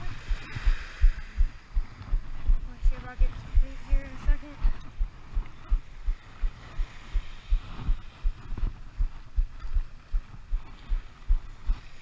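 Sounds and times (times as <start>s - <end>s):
faint wind or surf hiss: 0.0s - 12.0s
footsteps on sand: 0.0s - 12.0s.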